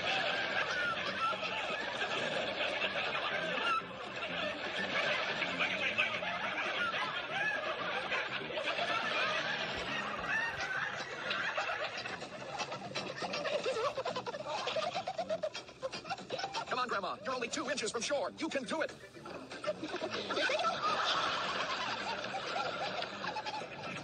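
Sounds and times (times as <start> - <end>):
people laughing: 0.0 - 24.0.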